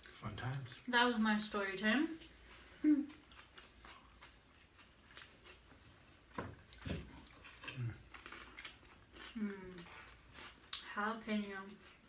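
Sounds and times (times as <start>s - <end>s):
quiet chewing: 2.1s - 12.0s.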